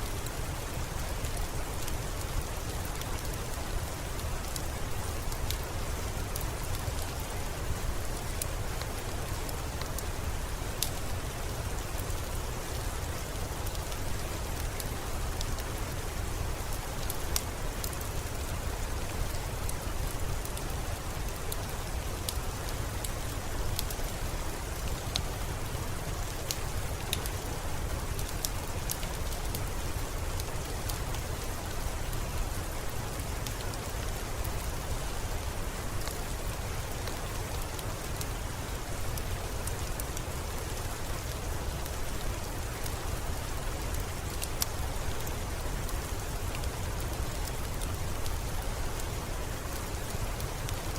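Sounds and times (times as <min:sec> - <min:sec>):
steady rain falling: 0:00.0 - 0:50.9
wood fire popping and crackling: 0:08.2 - 0:16.4, 0:17.0 - 0:50.9.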